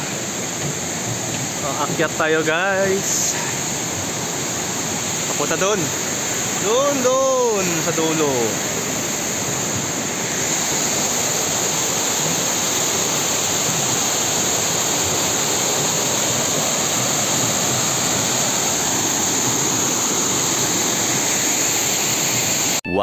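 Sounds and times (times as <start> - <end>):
waterfall rushing and splashing: 0.0 - 22.8.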